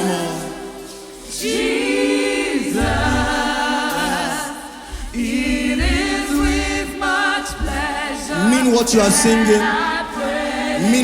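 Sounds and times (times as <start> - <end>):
choir singing a cappella: 0.0 - 11.0.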